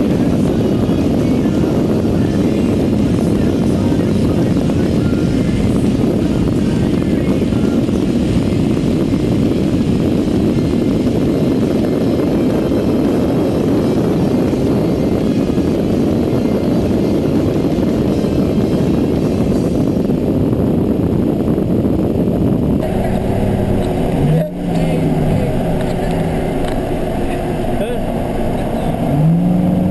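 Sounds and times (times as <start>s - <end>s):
truck engine noise: 0.0s - 29.9s
wind buffeting: 0.0s - 29.9s.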